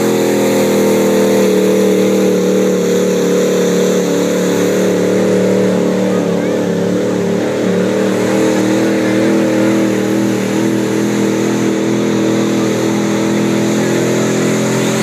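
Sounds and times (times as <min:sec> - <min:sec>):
truck engine droning at high revs: 0:00.0 - 0:15.0.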